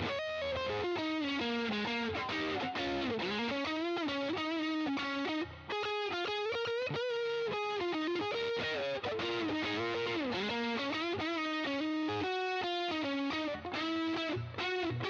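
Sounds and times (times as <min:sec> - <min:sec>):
overdriven electric guitar lead: 0:00.0 - 0:15.0.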